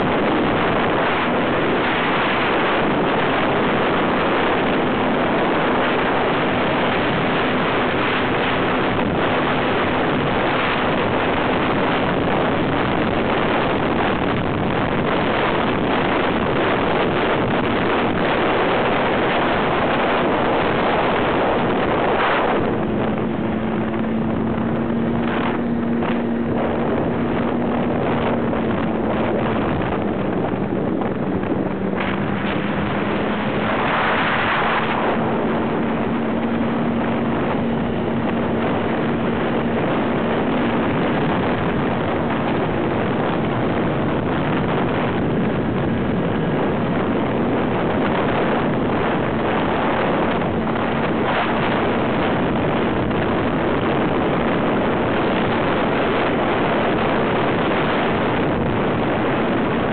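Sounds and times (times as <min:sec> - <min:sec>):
snowmobile engine running: 0:00.0 - 0:59.9
wind rushing over microphone: 0:00.0 - 0:59.9.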